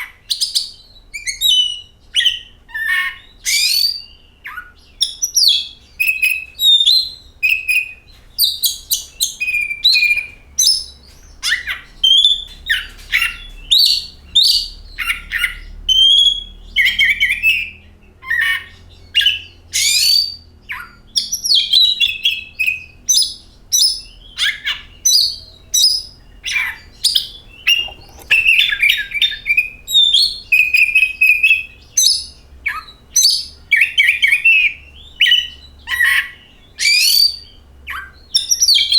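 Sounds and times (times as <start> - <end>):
songbird singing whistled phrases: 0.0 - 38.9.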